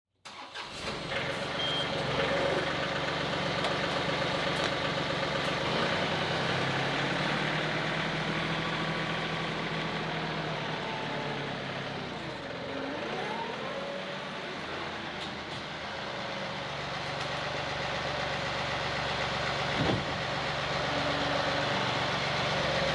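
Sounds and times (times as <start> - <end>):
vehicle engine running: 0.8 - 22.9.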